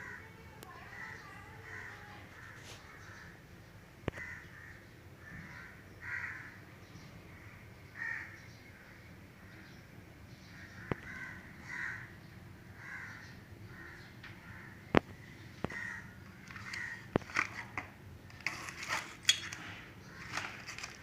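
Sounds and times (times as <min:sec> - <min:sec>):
birds calling: 0:00.0 - 0:18.0, 0:19.2 - 0:21.0.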